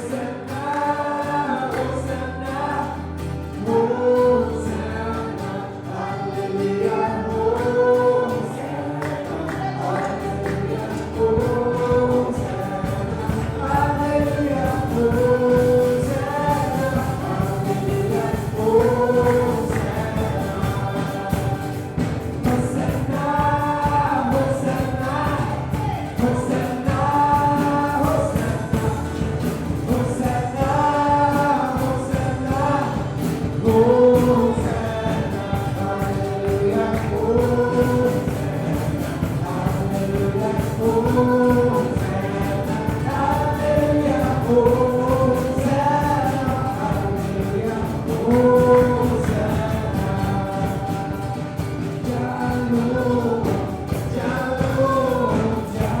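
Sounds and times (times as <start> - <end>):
voices singing held notes: 0.0 - 56.0
instrumental backing: 5.7 - 56.0.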